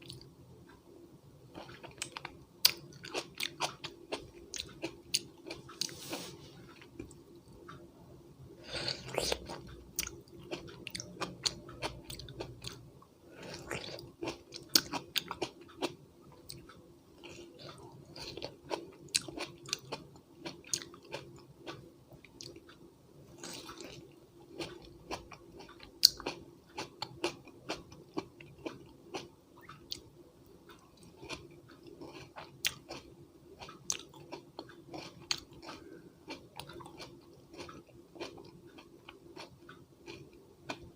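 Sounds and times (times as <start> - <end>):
person chewing crunchy vegetables: 1.5 - 7.7, 8.6 - 22.8, 23.4 - 30.1, 30.7 - 40.9.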